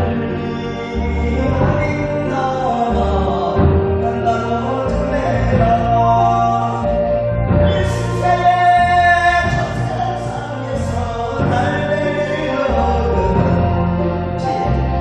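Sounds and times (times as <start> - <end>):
instrumental backing music: 0.0 - 15.0
person singing: 0.0 - 15.0.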